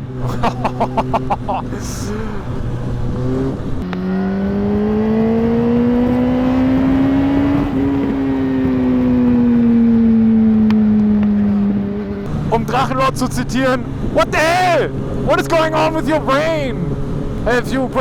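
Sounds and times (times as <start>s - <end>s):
motorcycle engine revving: 0.0s - 18.0s
riding wind noise: 0.0s - 18.0s.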